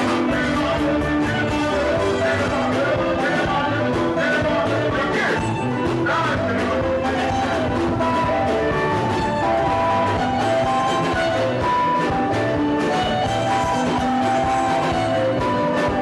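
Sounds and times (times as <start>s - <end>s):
music with steady beat: 0.0s - 16.0s.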